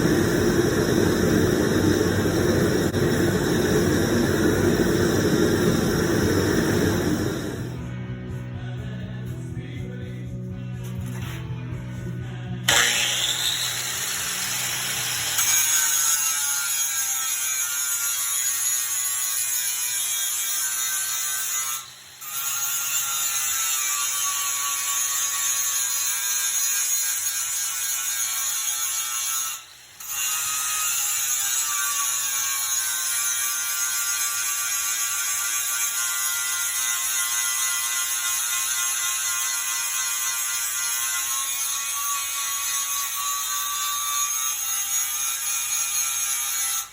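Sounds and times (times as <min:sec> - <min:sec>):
power grinder grinding steel: 0:00.0 - 0:07.9, 0:12.7 - 0:46.9.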